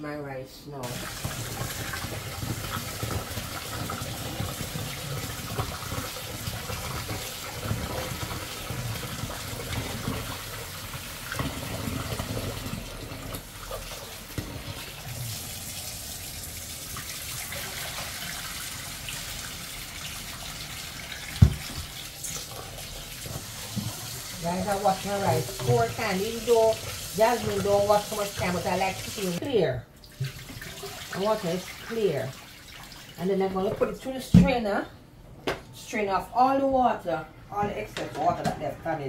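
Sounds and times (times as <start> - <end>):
tap water running and splashing: 0.8 - 34.5.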